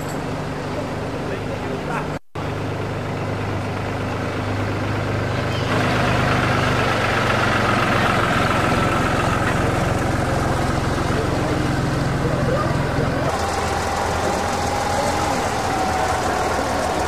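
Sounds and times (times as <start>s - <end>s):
tractor engine running: 2.3s - 17.0s.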